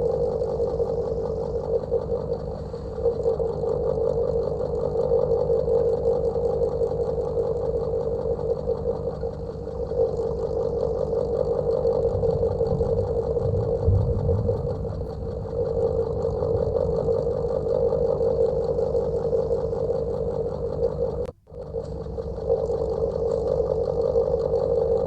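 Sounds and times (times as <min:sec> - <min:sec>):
deep rumble: 0:00.0 - 0:05.8, 0:07.2 - 0:25.0
fan motor humming: 0:00.0 - 0:25.0.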